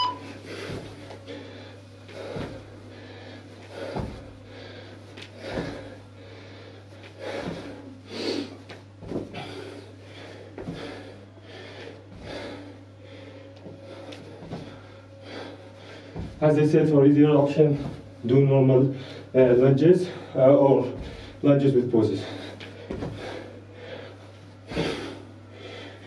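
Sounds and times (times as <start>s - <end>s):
steady low hum: 0.0s - 26.0s
forceful breathing: 0.3s - 18.2s, 18.8s - 26.0s.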